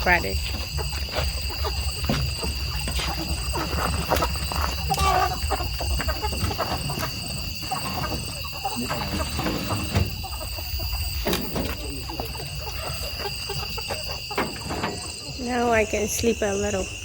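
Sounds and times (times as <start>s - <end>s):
chickens squawking: 0.0s - 16.9s.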